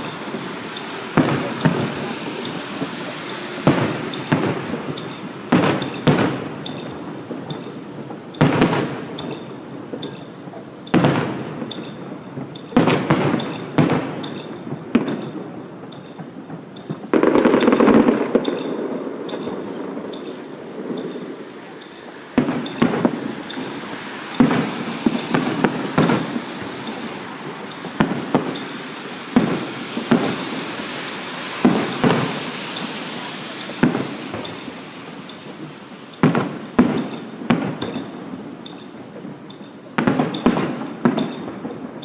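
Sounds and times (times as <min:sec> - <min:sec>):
fireworks bangs: 0:00.0 - 0:42.0
fireworks crackling hiss: 0:00.0 - 0:42.0.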